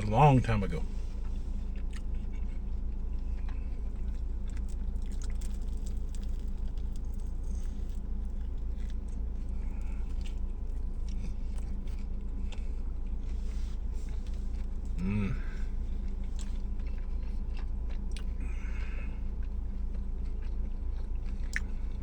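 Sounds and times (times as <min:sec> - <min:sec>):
man chewing a sandwich: 0:00.0 - 0:22.0
steady low hum: 0:00.0 - 0:22.0
bread crunching: 0:01.1 - 0:22.0.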